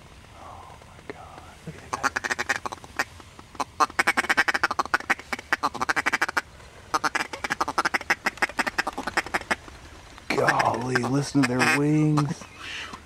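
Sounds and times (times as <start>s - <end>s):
ducks quacking: 1.7s - 9.6s, 10.3s - 13.0s.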